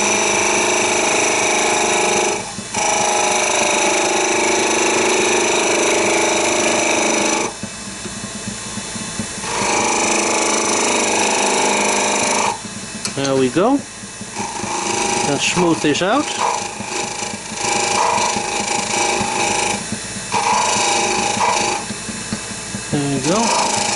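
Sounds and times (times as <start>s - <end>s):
lathe tool scraping wood: 0.0s - 23.9s.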